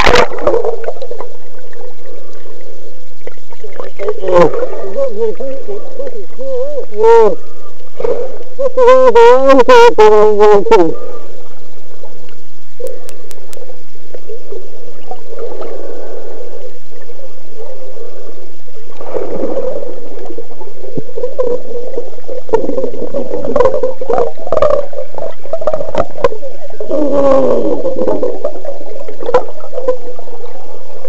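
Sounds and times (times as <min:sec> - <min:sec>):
muffled underwater water rush: 0:00.0 - 0:31.0.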